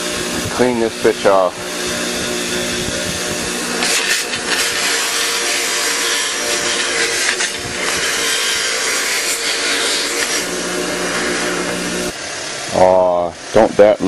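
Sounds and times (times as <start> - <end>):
power wire brush scraping metal: 0.0 - 14.0.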